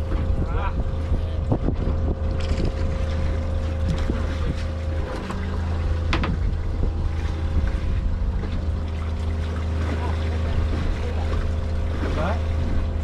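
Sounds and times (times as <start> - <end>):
boat engine idling: 0.0 - 13.0
wind buffeting microphone: 0.0 - 13.0.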